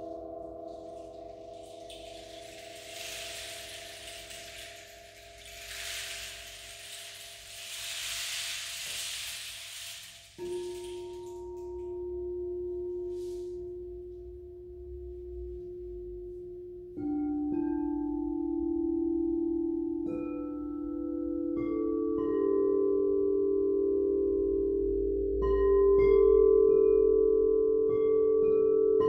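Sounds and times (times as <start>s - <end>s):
crystal singing bowls ringing: 0.0s - 14.7s, 17.0s - 29.0s.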